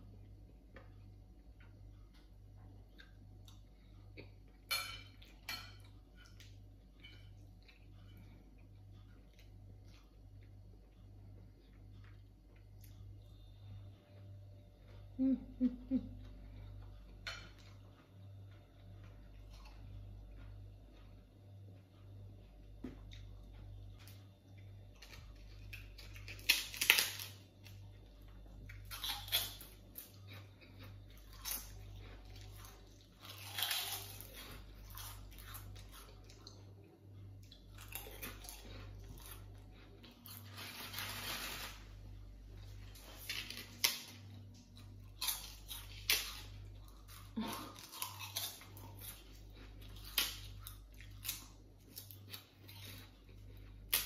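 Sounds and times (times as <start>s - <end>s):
crackers crunching while chewed: 0.0s - 15.1s, 16.3s - 54.0s.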